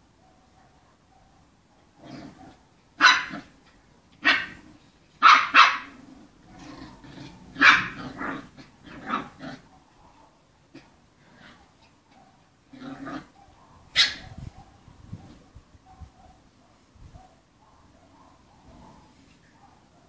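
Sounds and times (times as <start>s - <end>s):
quiet low puppy sounds: 0.0s - 5.1s, 6.2s - 20.0s
puppies barking: 2.0s - 3.5s, 4.2s - 6.0s, 6.6s - 20.0s.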